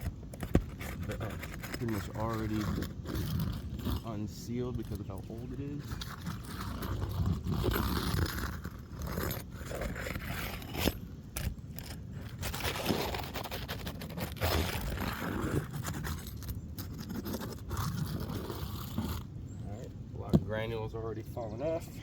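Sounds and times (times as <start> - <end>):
metal tool scraping shingles: 0.0 - 19.3.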